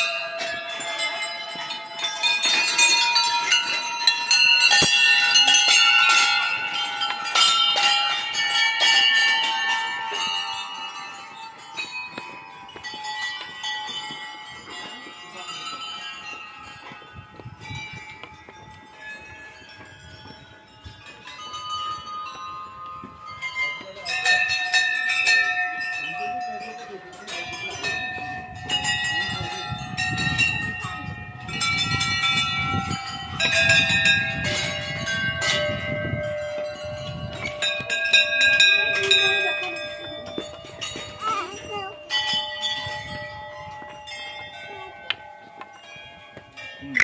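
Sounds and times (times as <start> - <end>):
temple bells ringing: 0.0 - 47.0.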